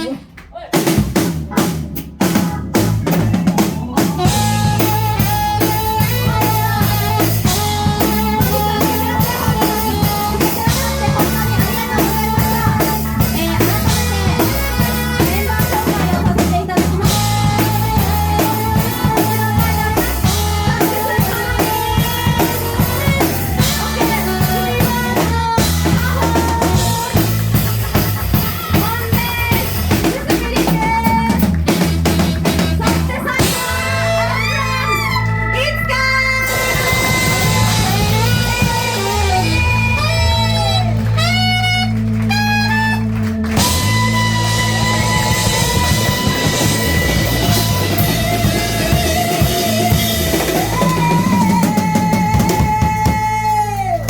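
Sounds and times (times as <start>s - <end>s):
bass line: 0.0s - 54.0s
drum kit beat: 0.0s - 54.0s
lead melody: 2.2s - 51.5s.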